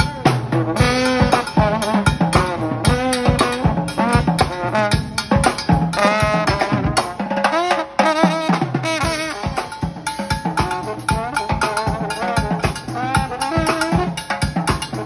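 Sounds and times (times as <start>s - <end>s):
drum kit beat: 0.0s - 15.0s
trombone melody: 0.0s - 15.0s.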